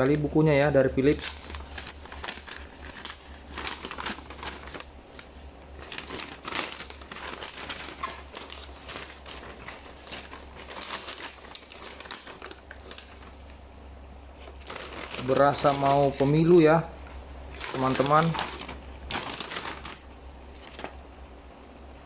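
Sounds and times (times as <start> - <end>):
paper leaflet crinkling: 0.0 - 13.6, 14.3 - 21.1.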